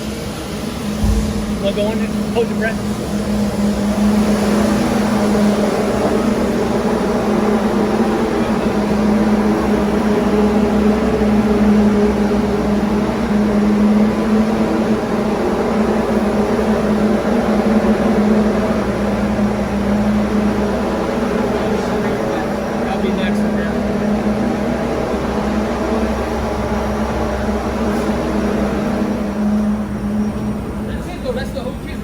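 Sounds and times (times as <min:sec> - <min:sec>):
abrasive blasting hiss: 0:00.0 - 0:32.0
blasting equipment hum: 0:00.0 - 0:32.0.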